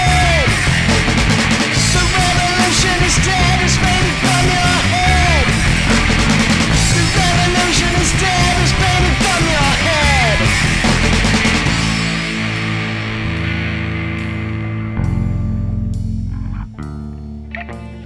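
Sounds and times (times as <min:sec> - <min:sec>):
punk rock band music: 0:00.0 - 0:18.0.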